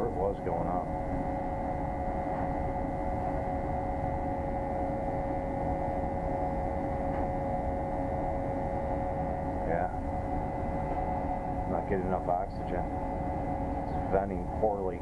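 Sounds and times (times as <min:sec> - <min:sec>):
low mechanical rumble: 0:00.0 - 0:15.0
mid-pitched hum: 0:00.0 - 0:15.0.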